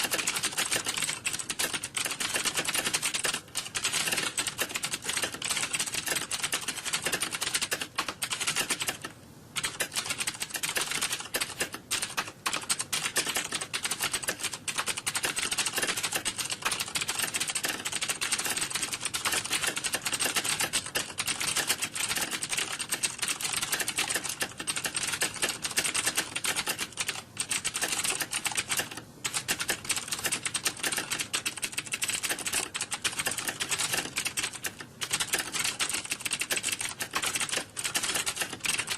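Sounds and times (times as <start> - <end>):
keyboard typing clicks: 0.0 - 38.9.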